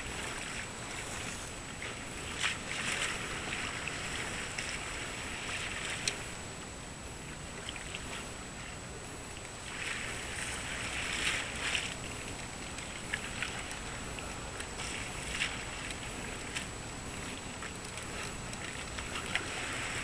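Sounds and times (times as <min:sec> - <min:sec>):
water lapping gently: 0:00.0 - 0:20.0.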